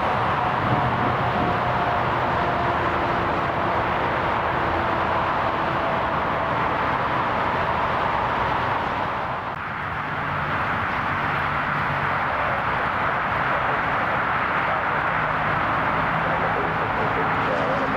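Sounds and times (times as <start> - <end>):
jet airliner engines running: 0.0 - 17.9.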